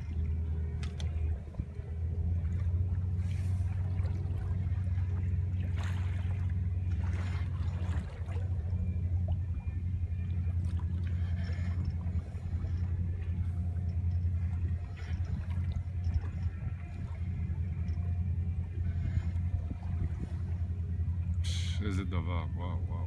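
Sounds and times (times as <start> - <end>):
boat engine droning: 0.0 - 23.0
water splashing against hull: 0.0 - 23.0.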